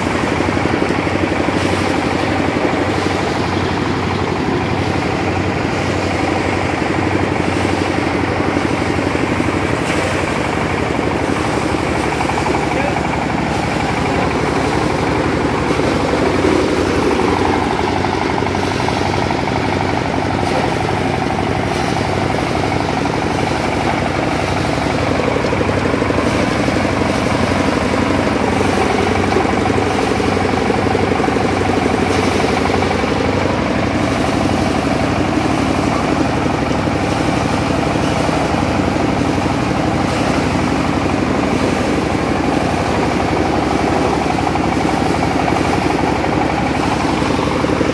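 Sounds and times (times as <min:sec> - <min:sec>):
thresher machine droning: 0:00.0 - 0:47.9.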